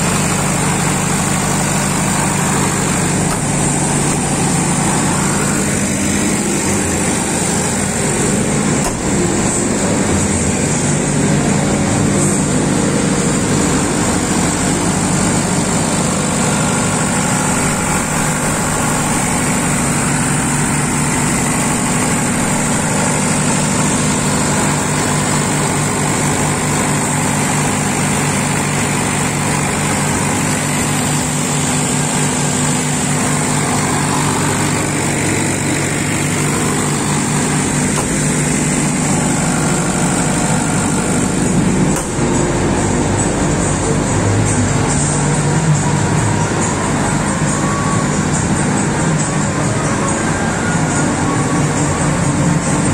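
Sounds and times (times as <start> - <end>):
steady low hum: 0.0 - 50.2
diesel generator engine drone: 0.0 - 52.9.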